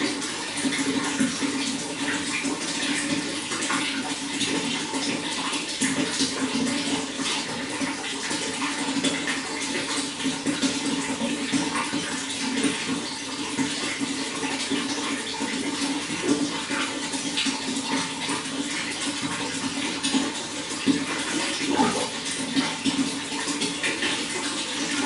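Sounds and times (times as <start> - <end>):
running water flowing: 0.0 - 25.0
water splashing and gurgling: 0.0 - 25.0.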